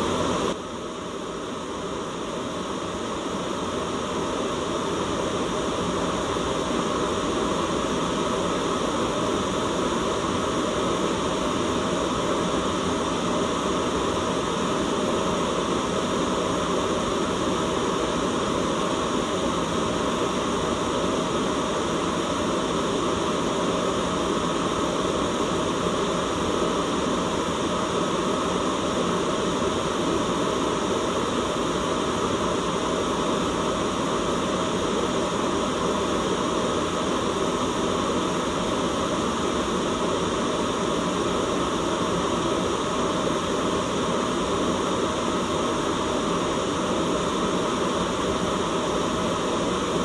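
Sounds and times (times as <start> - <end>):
steady white noise: 0.0 - 50.0.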